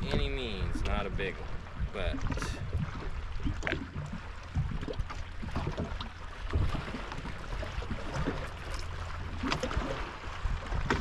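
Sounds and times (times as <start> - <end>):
low rumble: 0.0 - 11.0
waves lapping against boat hull: 0.0 - 11.0.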